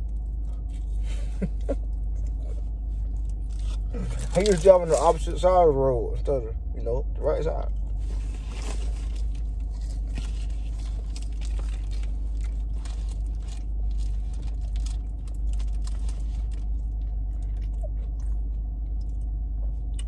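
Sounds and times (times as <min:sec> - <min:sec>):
low rumble inside car: 0:00.0 - 0:20.0
person chewing food: 0:00.3 - 0:04.5, 0:07.8 - 0:20.0.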